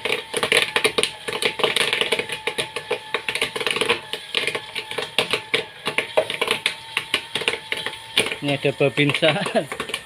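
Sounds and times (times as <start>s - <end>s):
popcorn popping: 0.0s - 10.0s.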